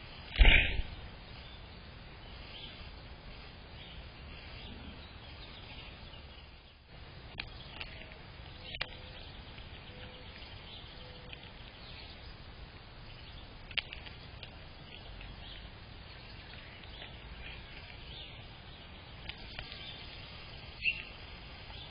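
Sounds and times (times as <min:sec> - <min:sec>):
outdoor background hiss: 0:00.0 - 0:21.9
faint bird chirps: 0:00.4 - 0:12.5, 0:13.1 - 0:21.9.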